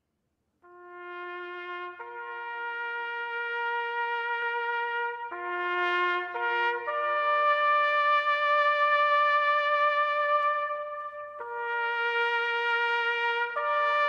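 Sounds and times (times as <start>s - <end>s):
slow brass-like melody: 0.6s - 14.0s.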